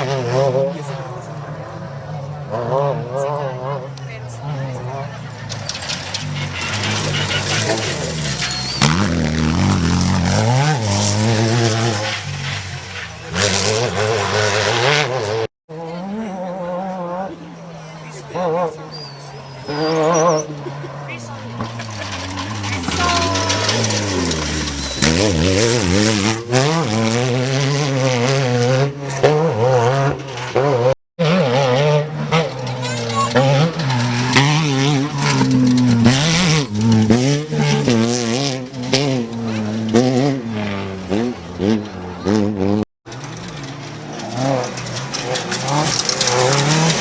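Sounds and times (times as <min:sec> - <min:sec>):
race truck engine revving: 0:00.0 - 0:47.0.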